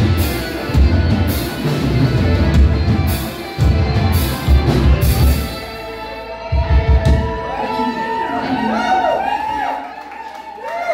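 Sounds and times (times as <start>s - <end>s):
live rock band playing: 0.0s - 9.2s.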